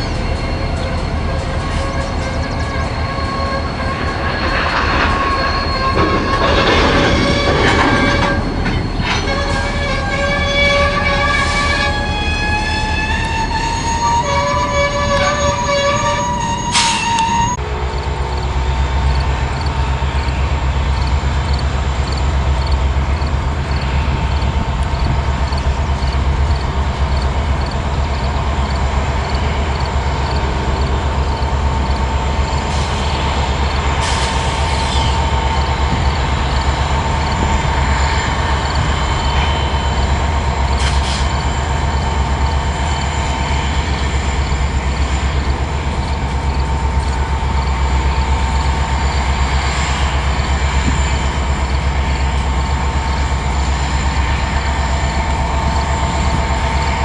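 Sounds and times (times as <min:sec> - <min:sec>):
high wheel squeals: 0:00.0 - 0:57.0
train wheels rumbling on rail: 0:00.0 - 0:57.0.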